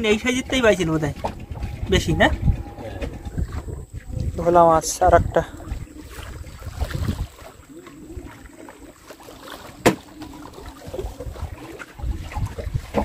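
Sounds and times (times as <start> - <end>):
handling noises on boat: 0.0 - 13.0
water and wind rumble: 0.0 - 13.0.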